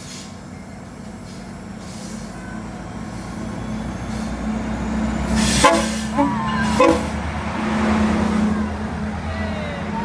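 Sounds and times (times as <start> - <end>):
diesel locomotive engine hum: 0.0 - 10.0.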